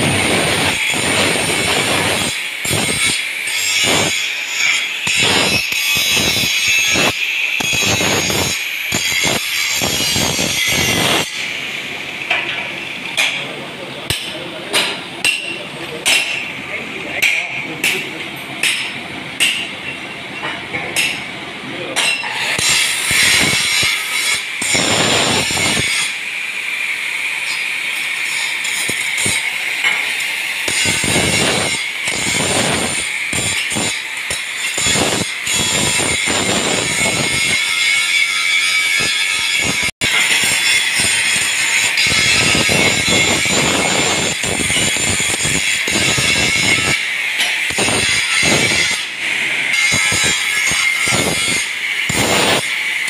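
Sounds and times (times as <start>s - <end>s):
angle grinder on steel: 0.0s - 13.3s, 22.1s - 53.0s.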